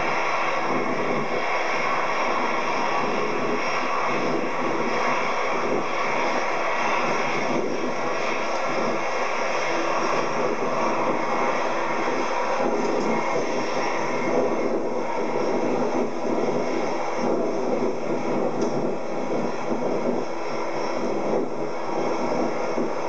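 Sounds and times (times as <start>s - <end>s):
jet engines at taxi power: 0.0s - 23.0s.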